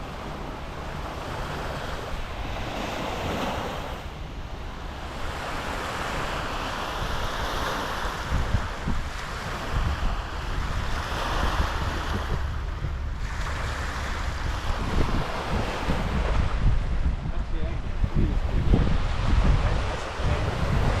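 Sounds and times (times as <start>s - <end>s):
waves breaking on shore: 0.0s - 21.0s
wind buffeting microphone: 0.0s - 21.0s.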